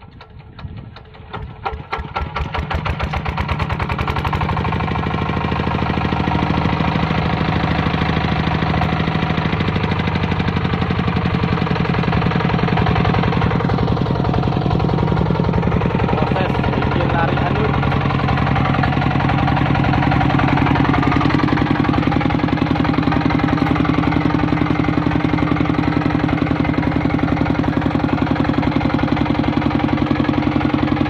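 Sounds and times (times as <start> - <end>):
single-cylinder diesel engine chugging: 0.0 - 31.0.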